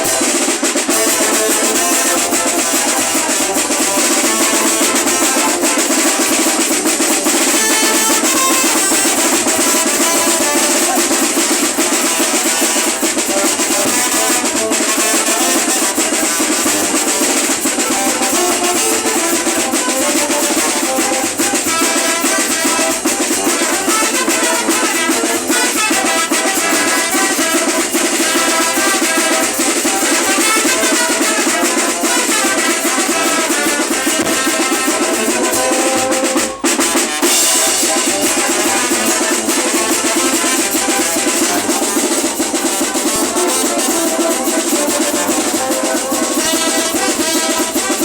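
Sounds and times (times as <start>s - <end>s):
brass band playing loud music: 0.0s - 48.0s
drums keeping a beat: 0.0s - 48.0s.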